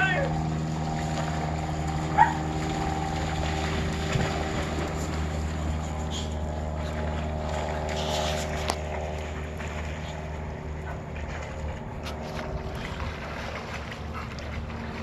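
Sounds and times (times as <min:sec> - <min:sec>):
dogs splashing through water: 0:00.0 - 0:15.0
machine hum: 0:00.0 - 0:15.0.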